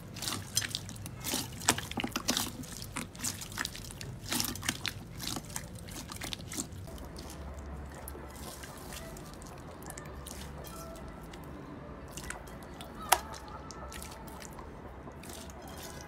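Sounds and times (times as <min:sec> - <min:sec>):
slime squishing: 0:00.0 - 0:16.0.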